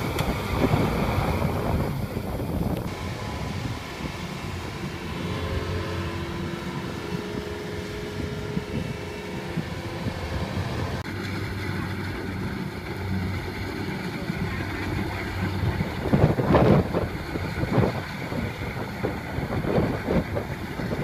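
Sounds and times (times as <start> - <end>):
combine harvester diesel engine: 0.0 - 21.0.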